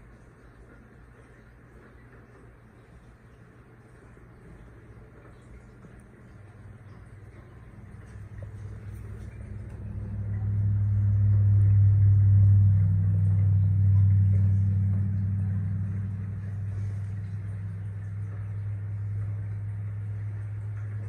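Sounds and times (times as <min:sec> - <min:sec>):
aquarium pump hum: 0:00.0 - 0:21.0.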